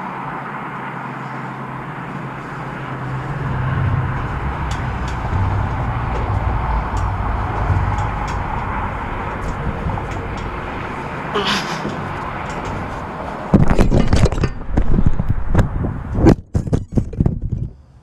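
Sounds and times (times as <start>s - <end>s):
propeller and wind rush: 0.0s - 18.0s.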